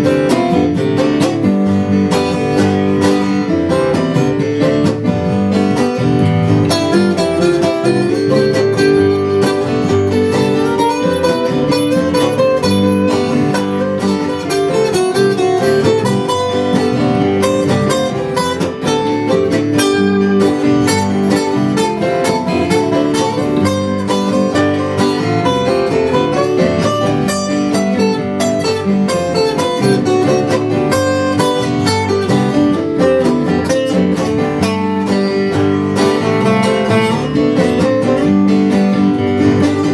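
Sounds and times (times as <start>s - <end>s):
acoustic guitar picking and strumming: 0.0s - 39.9s.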